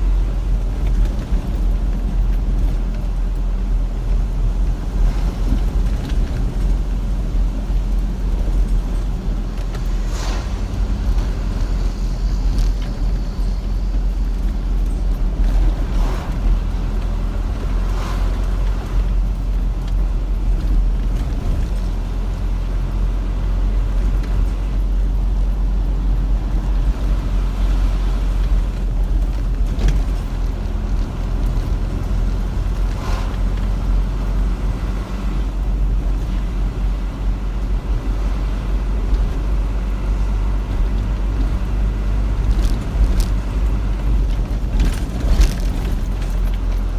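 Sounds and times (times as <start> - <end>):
road and engine rumble: 0.0 - 46.9.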